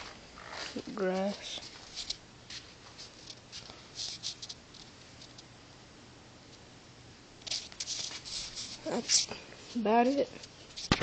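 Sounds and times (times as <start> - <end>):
faint rustling and scuffing: 0.0 - 5.5, 7.5 - 11.0.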